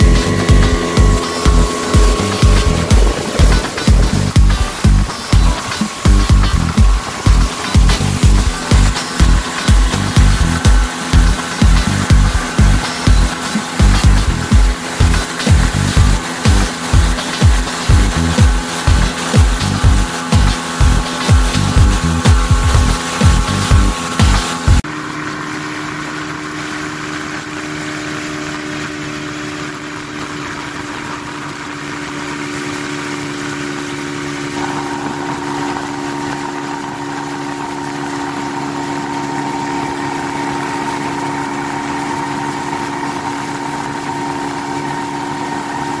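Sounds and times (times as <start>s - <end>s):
high-pitched whine: 0.0s - 46.0s
outboard motor running: 0.0s - 46.0s
water rushing past: 0.0s - 46.0s.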